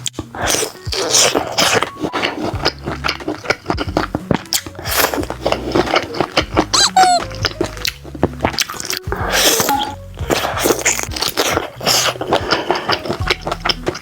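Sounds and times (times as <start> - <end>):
biting and chewing crispy sausage: 0.0 - 14.0.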